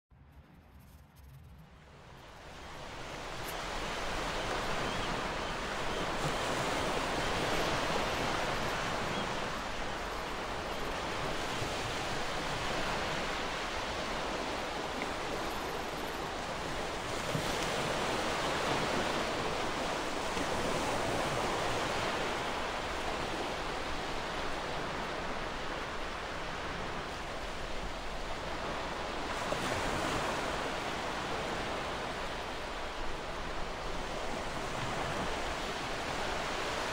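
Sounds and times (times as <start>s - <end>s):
ocean waves breaking on shore: 2.0s - 36.9s.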